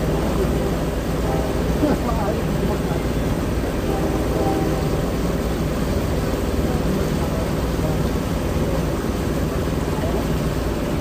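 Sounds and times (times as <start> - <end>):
boat engine rumble: 0.0 - 11.0
constant noisy hiss: 0.0 - 11.0.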